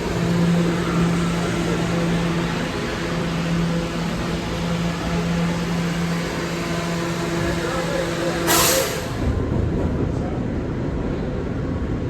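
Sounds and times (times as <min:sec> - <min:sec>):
vehicle running noise: 0:00.0 - 0:12.0.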